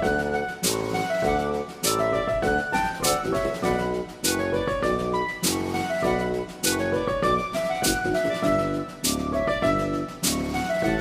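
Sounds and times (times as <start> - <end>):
instrumental music with steady beat: 0.0 - 11.0
keyboard chords: 0.0 - 11.0.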